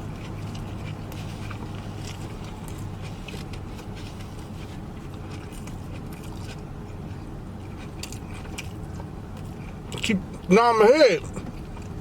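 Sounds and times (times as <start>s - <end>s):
chewing with wet mouth clicks: 0.0s - 10.5s, 11.2s - 12.0s.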